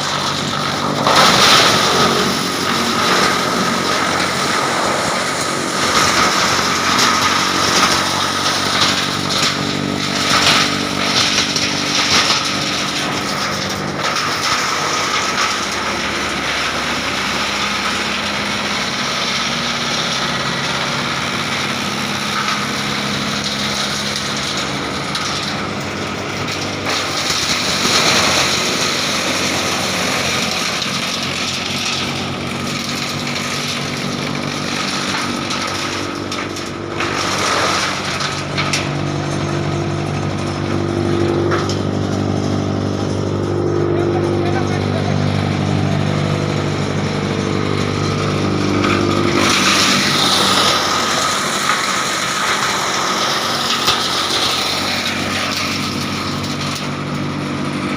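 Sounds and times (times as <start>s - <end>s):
wood chipper running: 0.0s - 57.9s.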